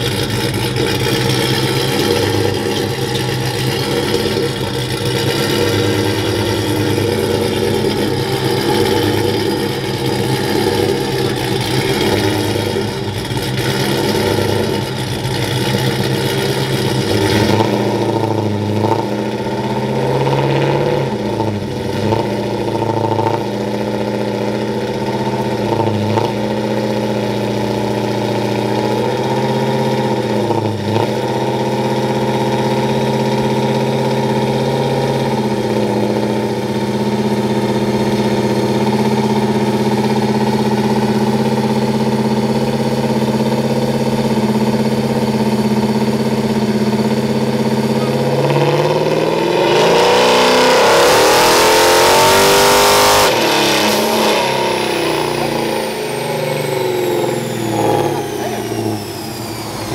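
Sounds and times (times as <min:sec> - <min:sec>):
engine running on dyno: 0:00.0 - 0:59.9.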